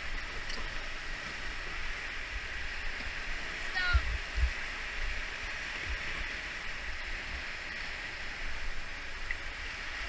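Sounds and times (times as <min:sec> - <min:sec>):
whitewater river rushing: 0:00.0 - 0:10.0.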